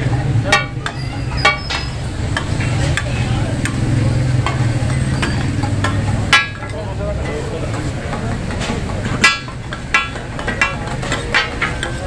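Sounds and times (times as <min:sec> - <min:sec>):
chicken frying on a griddle: 0:00.0 - 0:12.0
metal spatulas clanging on pan: 0:00.0 - 0:12.0.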